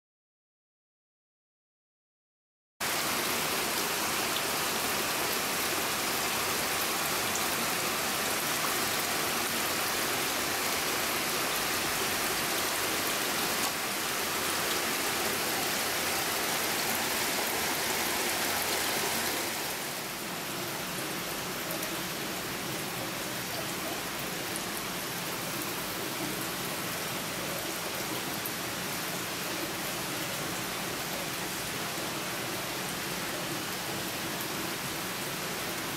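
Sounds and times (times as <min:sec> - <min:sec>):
water running in tanks: 0:02.8 - 0:35.9.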